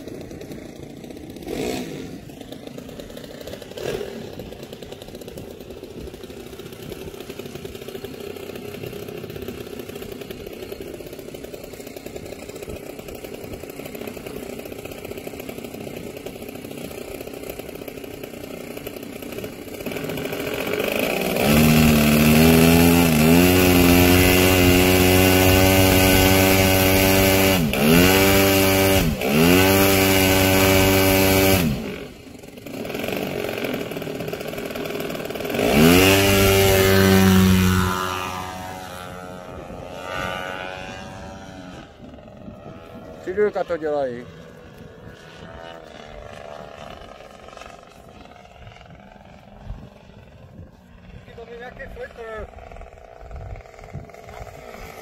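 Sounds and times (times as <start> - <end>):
model aeroplane engine running: 0.0 - 55.0.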